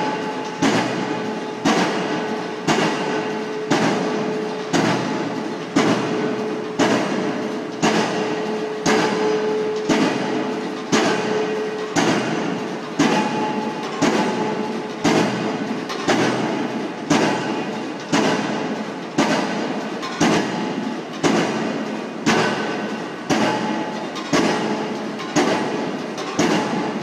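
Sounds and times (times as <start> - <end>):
pile driver hammer striking: 0.0 - 27.0.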